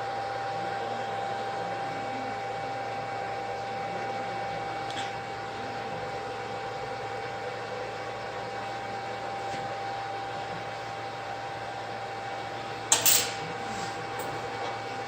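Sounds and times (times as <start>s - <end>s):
hot-air heater hiss and whine: 0.0s - 15.0s.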